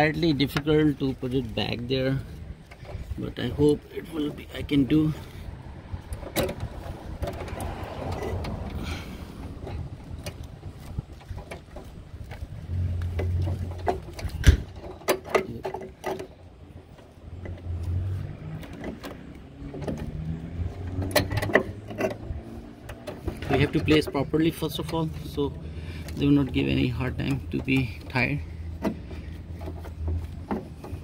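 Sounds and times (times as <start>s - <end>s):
metallic clicks and knocks: 6.0s - 31.0s.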